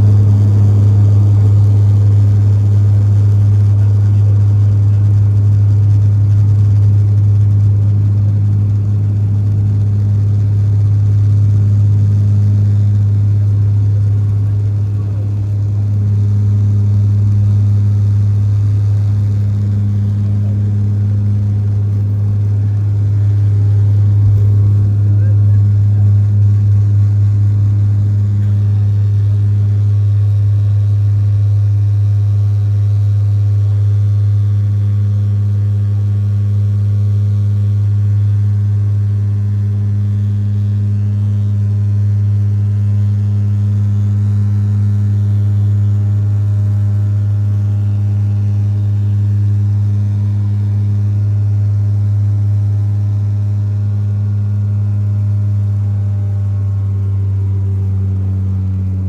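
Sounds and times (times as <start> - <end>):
propeller airliner drone: 0.0 - 59.0.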